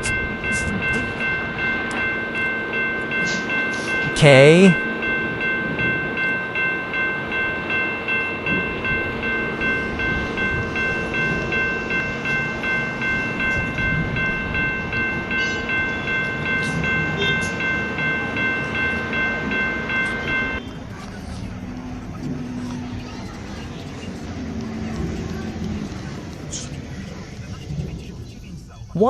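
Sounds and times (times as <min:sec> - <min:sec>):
passing train rumble: 0:00.0 - 0:29.0
railroad crossing bell ringing: 0:00.0 - 0:29.0.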